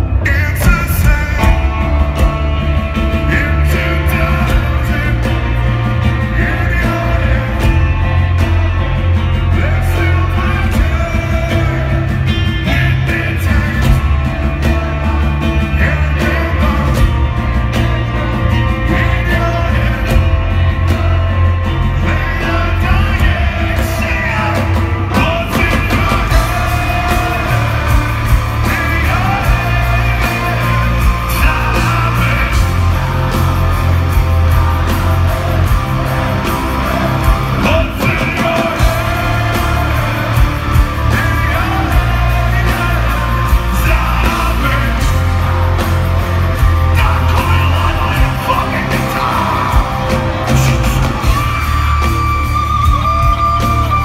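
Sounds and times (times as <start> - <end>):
drums: 0.0 - 54.0
heavy booming bass: 0.0 - 54.0
man singing and yelling: 0.0 - 54.0.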